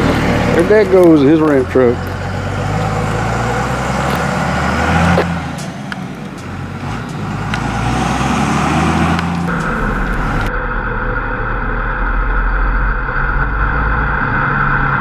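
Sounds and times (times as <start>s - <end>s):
truck engine driving away: 0.0s - 15.0s.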